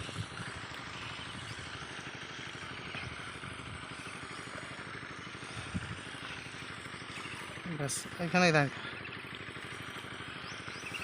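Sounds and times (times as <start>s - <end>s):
diesel water pump engine running: 0.0s - 11.0s.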